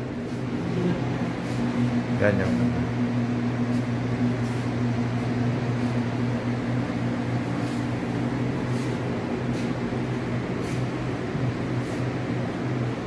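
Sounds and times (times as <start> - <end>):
ventilation fans humming: 0.0 - 13.0.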